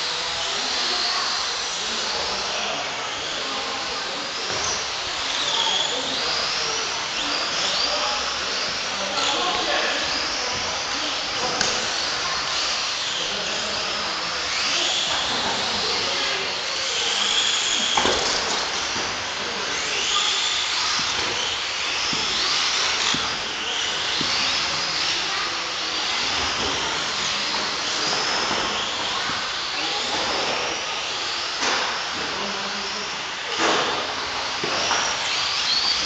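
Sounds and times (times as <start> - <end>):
electric rc car motors whining: 0.0 - 36.0.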